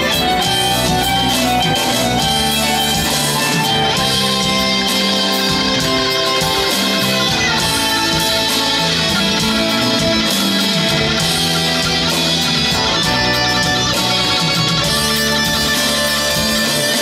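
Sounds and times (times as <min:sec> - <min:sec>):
live band with guitars and drums: 0:00.0 - 0:17.0.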